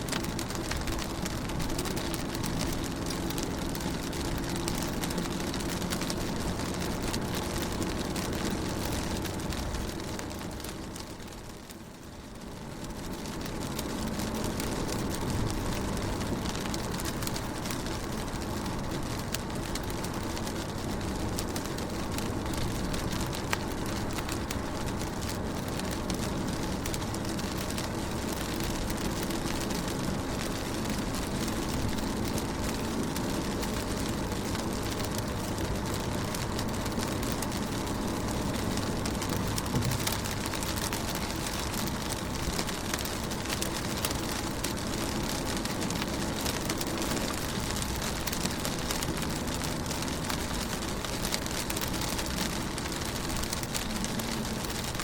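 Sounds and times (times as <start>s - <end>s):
rain pattering on car window: 0.0s - 55.0s.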